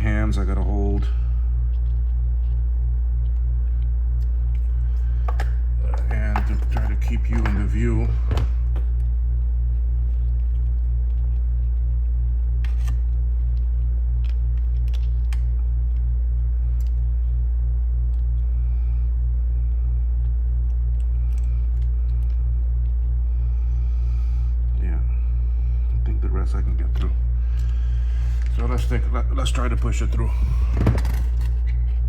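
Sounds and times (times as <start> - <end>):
low hum with regular throb: 0.0 - 32.0.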